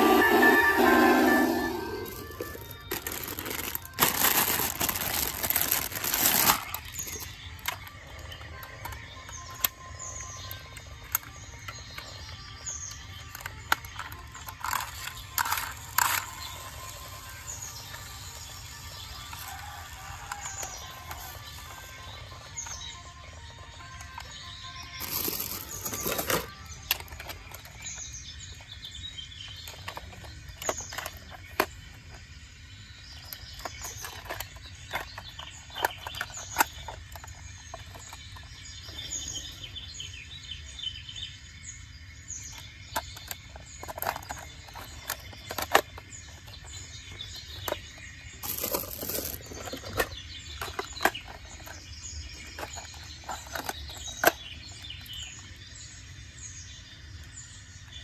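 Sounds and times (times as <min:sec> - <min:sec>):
outdoor background noise: 0:00.0 - 0:58.0
small birds chirping: 0:00.0 - 0:58.0.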